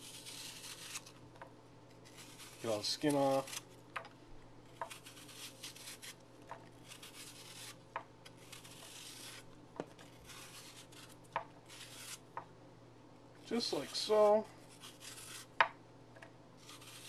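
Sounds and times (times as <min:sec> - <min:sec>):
knife peeling apple: 0:00.0 - 0:01.2, 0:01.9 - 0:04.0, 0:04.6 - 0:12.4, 0:13.5 - 0:15.8, 0:16.6 - 0:17.0.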